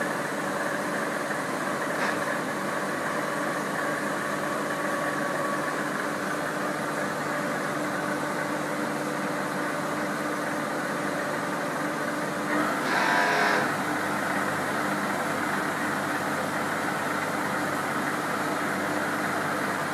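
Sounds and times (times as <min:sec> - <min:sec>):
milling machine droning: 0:00.0 - 0:19.9.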